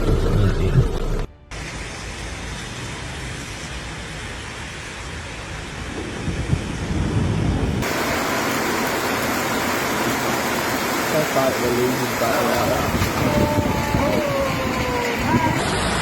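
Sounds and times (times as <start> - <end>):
heavy rain and floodwater rushing: 1.5 - 16.0.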